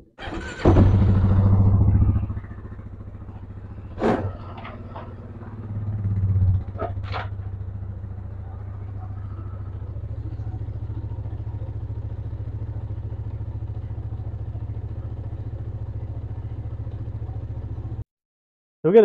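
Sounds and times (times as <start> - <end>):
engine idling: 0.1 - 18.0.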